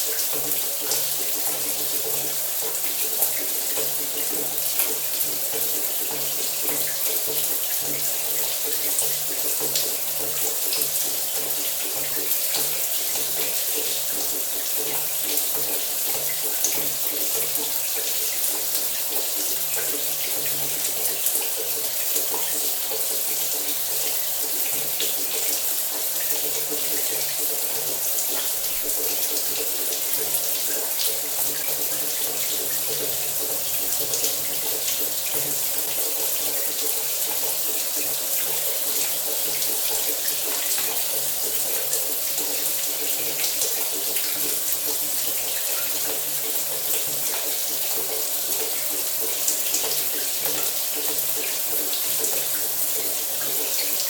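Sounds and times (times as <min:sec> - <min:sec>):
shower water running: 0:00.0 - 0:54.0.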